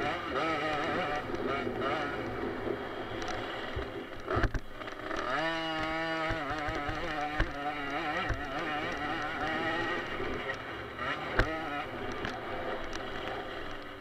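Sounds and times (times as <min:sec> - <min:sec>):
two-stroke dirt bike engine revving: 0:00.0 - 0:14.0.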